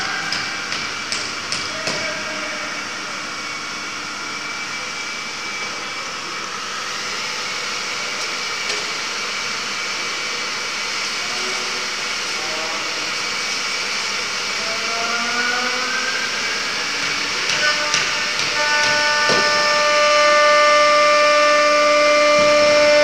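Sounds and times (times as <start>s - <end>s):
wood milling router with whine: 0.0s - 23.0s.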